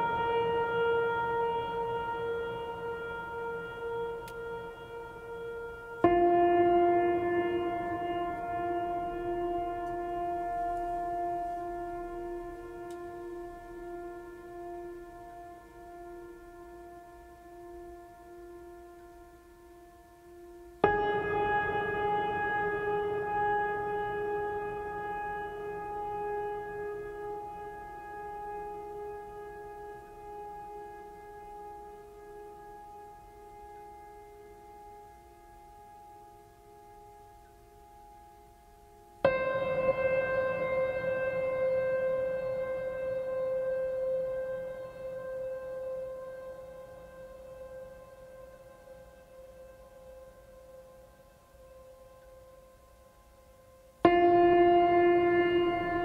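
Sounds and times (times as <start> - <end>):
ambient held note with overtones: 0.0 - 56.0.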